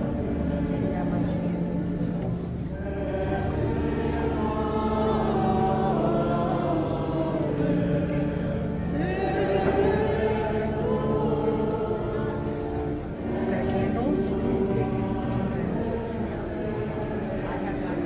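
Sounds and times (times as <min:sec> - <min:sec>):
voices chanting a hymn: 0:00.0 - 0:18.0.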